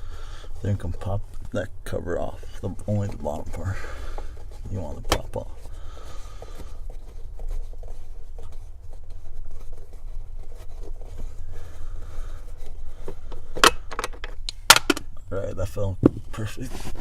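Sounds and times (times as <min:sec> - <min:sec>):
plastic cover rubbing and ticking: 0:00.4 - 0:14.7.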